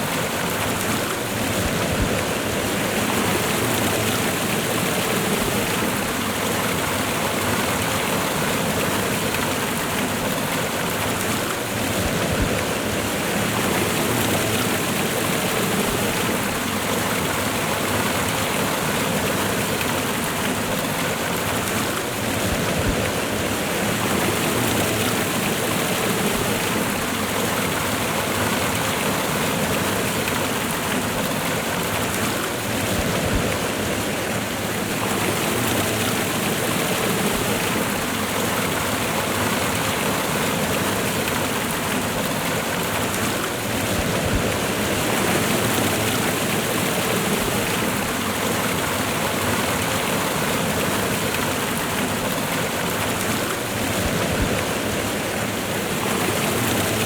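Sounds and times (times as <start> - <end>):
waterfall and rushing river: 0.0 - 57.0.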